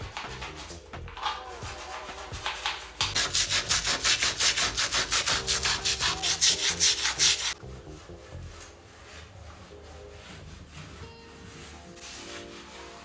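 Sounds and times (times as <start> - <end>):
scrubbing brush on silicone seal: 0.0 - 13.0.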